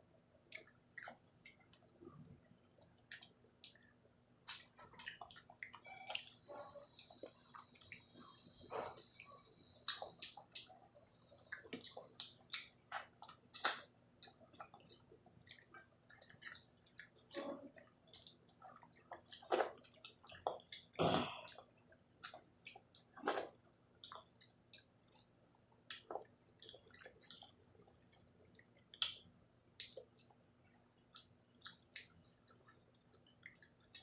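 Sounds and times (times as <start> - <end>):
wet chewing mouth sounds: 0.5 - 25.3, 25.9 - 30.4, 31.1 - 34.0.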